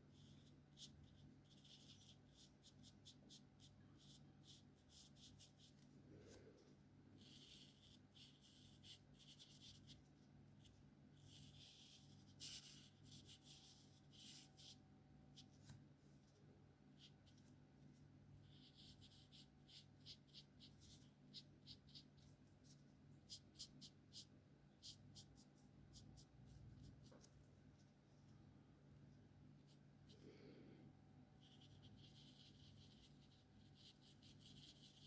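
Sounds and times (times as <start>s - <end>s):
markers stroking across paper: 0.0s - 6.4s, 7.2s - 28.0s, 31.4s - 35.0s.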